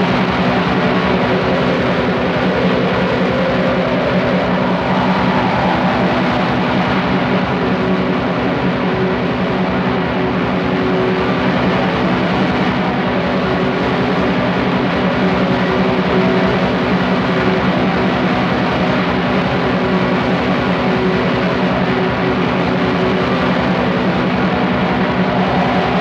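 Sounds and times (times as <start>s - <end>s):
distorted black metal band: 0.0s - 26.0s.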